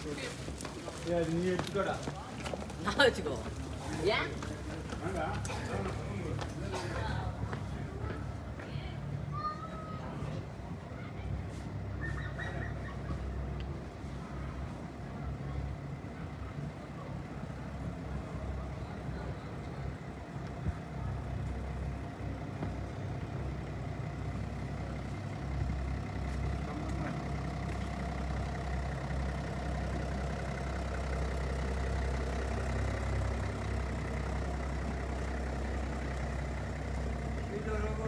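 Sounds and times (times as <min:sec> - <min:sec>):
car engine idling: 0:00.0 - 0:08.9, 0:12.6 - 0:38.0.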